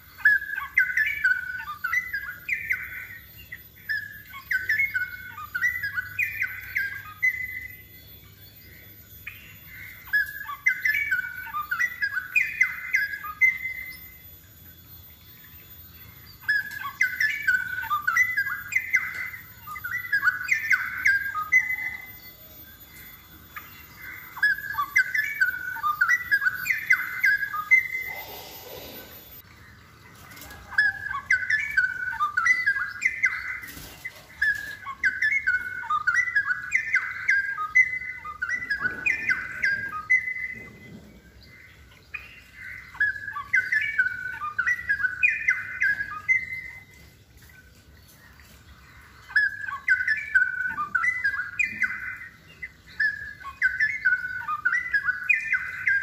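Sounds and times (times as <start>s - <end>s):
bulbul singing warbled phrases: 0.0s - 47.0s, 48.3s - 56.0s.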